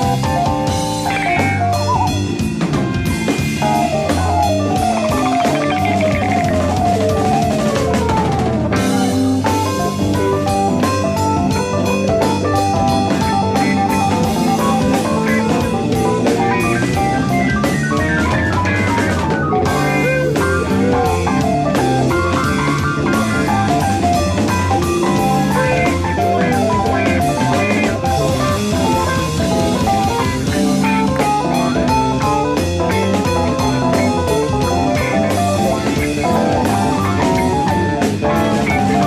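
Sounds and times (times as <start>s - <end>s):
drum kit: 0.0s - 39.0s
electric bass: 0.0s - 39.0s
electric guitar lines: 0.0s - 39.0s.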